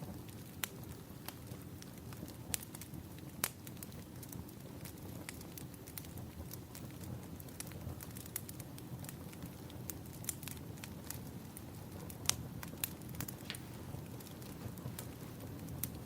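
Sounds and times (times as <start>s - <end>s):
low steady fire rumble: 0.0s - 16.0s
wood fire crackling and popping: 0.0s - 16.0s.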